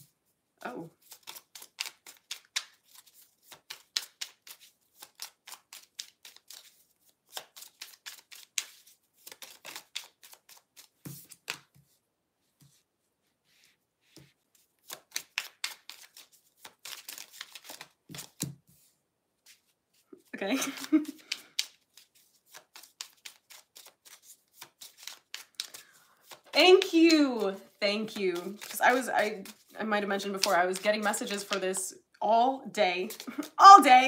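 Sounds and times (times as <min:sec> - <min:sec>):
cards being shuffled: 0:01.0 - 0:12.8, 0:13.6 - 0:31.8, 0:33.0 - 0:34.0.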